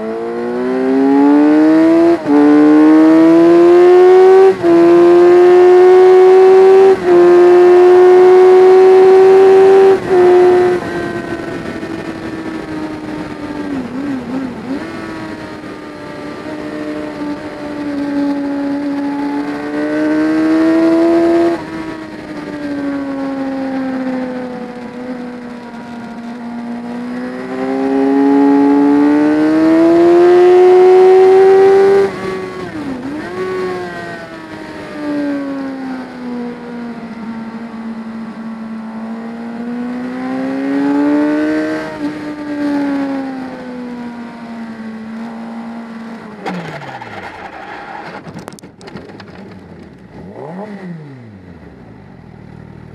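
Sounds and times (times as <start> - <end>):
racing motorcycle engine revving: 0.0 - 52.9.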